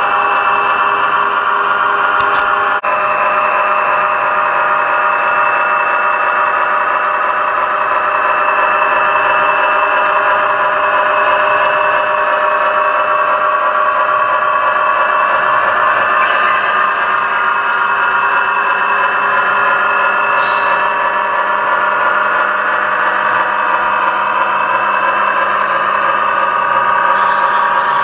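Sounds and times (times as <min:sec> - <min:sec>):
model train humming and whirring: 0:00.0 - 0:28.0.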